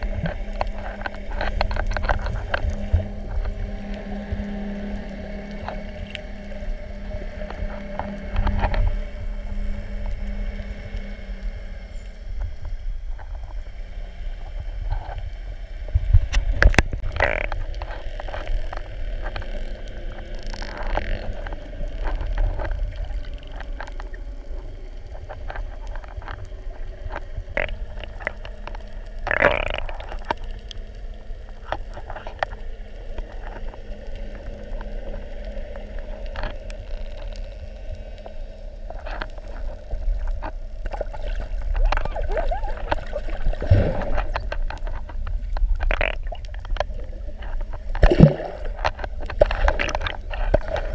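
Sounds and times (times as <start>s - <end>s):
muffled underwater rumble: 0.0s - 50.9s.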